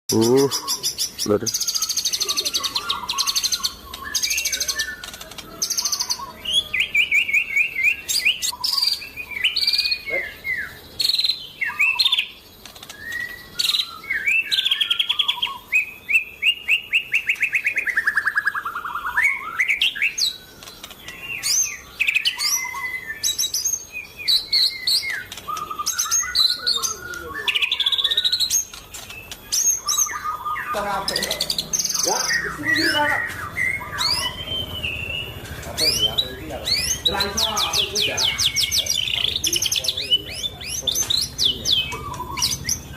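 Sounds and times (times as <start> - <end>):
songbird whistling and trilling: 0.1 - 42.9.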